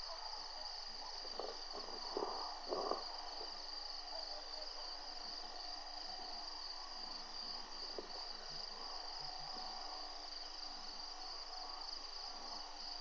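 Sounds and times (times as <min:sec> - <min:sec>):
insects trilling: 0:00.5 - 0:13.0.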